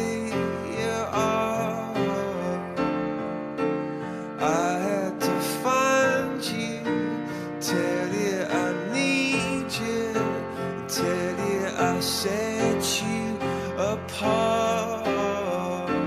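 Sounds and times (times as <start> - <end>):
person singing: 0.0 - 3.4, 4.1 - 16.0.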